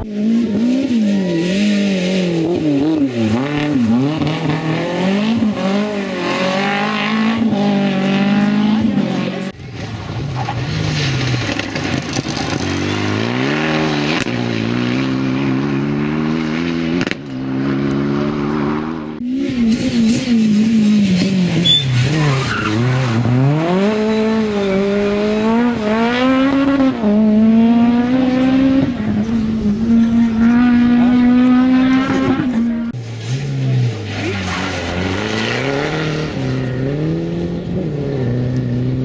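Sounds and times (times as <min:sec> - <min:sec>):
rally car engines at full throttle: 0:00.0 - 0:39.0.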